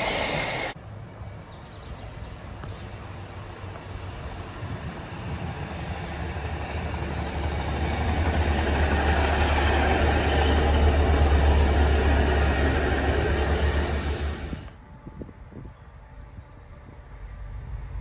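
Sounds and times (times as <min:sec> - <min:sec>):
train wheel and rail noise: 0:00.0 - 0:15.0
diesel train engine hum: 0:00.0 - 0:15.1, 0:15.7 - 0:18.0.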